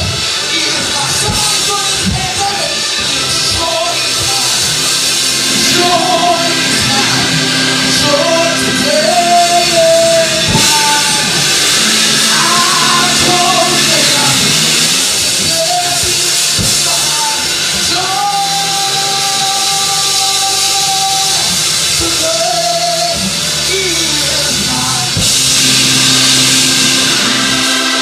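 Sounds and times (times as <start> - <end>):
person singing into a microphone: 0.0 - 25.4
sustained instrumental chords: 0.0 - 28.0.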